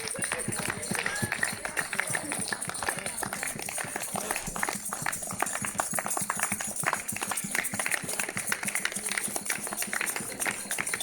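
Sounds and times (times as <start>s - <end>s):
people clapping: 0.0s - 11.0s.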